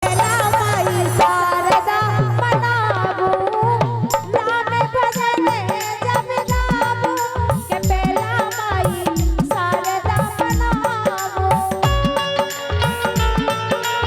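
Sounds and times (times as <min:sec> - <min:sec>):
hand drum rhythm: 0:00.0 - 0:14.0.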